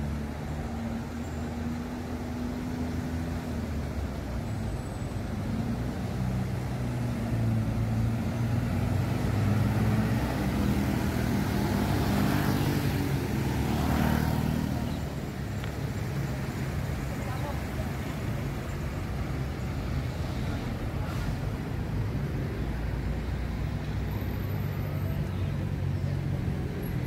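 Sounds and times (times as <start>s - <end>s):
train engine hum passing: 0.0s - 27.0s.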